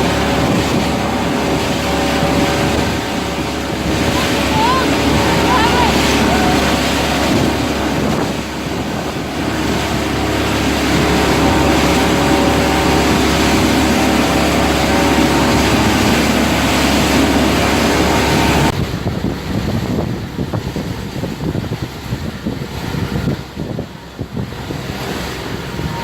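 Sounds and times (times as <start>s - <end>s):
motorboat engine running: 0.0s - 26.0s
water rushing: 0.0s - 26.0s
wind rushing: 0.0s - 26.0s.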